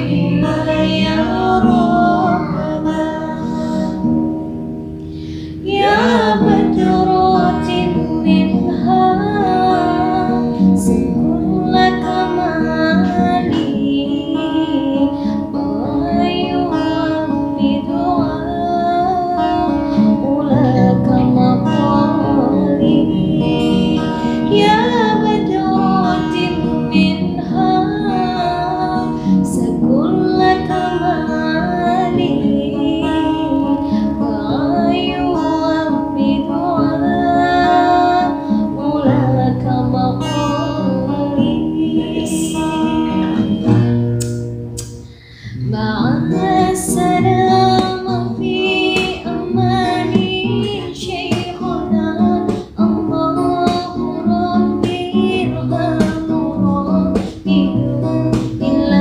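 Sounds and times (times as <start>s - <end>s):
woman singing: 0.0s - 4.5s, 5.3s - 59.0s
acoustic guitar: 0.0s - 59.0s.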